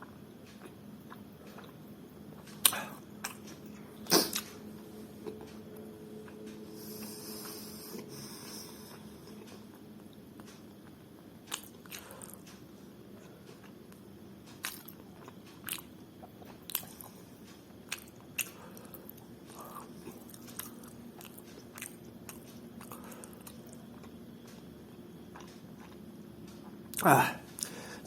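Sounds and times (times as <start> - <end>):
chewing and mouth noises: 0.0 - 4.6, 6.2 - 12.6, 14.5 - 27.8
steady low hum: 0.0 - 28.0.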